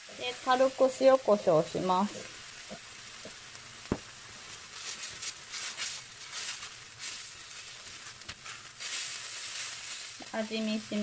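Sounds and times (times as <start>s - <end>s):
noodles sizzling in frying pan: 0.0s - 11.0s.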